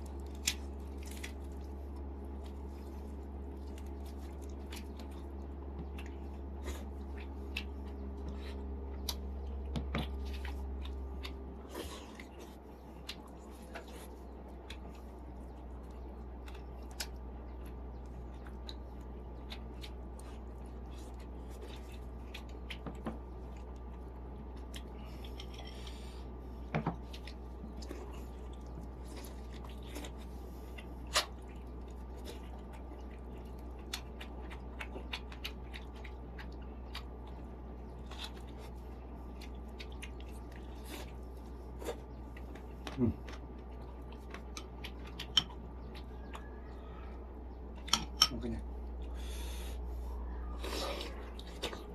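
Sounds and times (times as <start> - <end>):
person chewing food: 0.0 - 51.9
steady low hum: 0.0 - 51.9.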